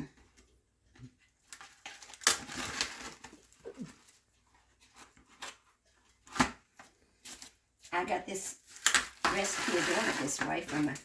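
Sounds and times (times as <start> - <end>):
plastic cling wrap crinkling: 1.3 - 6.4, 7.0 - 11.0.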